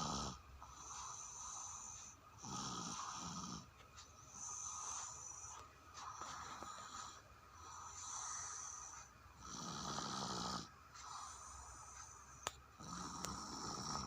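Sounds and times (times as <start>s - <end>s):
person snoring: 0.0s - 3.7s, 4.3s - 14.0s.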